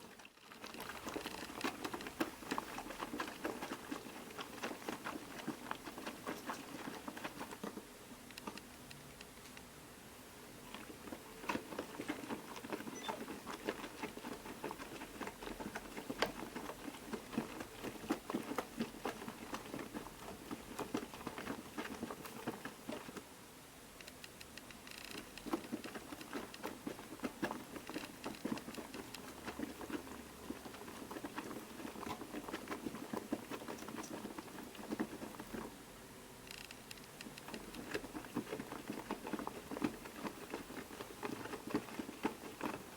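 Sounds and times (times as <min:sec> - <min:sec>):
washing machine laundry tumbling: 0:00.0 - 0:07.9, 0:10.6 - 0:23.2, 0:25.2 - 0:35.8, 0:37.2 - 0:42.9.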